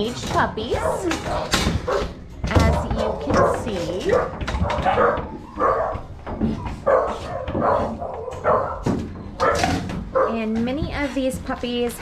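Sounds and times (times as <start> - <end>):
puppies barking: 0.0 - 10.6.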